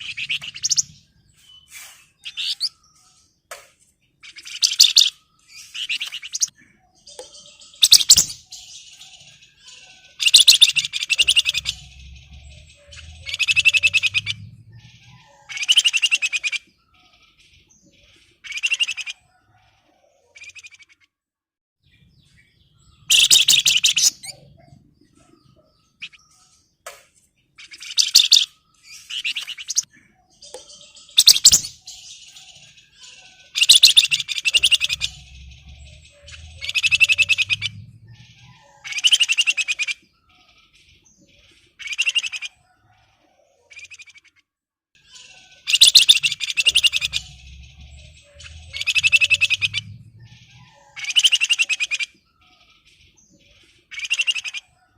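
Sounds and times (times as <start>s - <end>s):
bird high chattering song: 0.0s - 21.1s, 21.8s - 44.4s, 45.0s - 54.9s.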